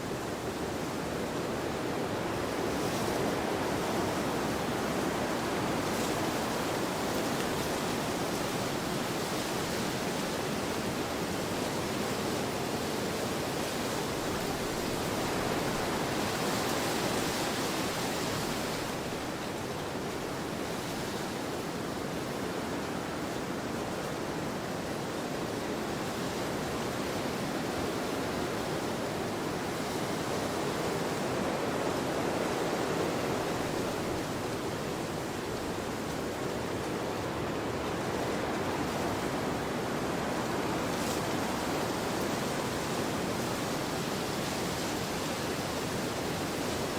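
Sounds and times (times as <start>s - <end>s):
wind blowing in gusts: 0.0s - 46.9s.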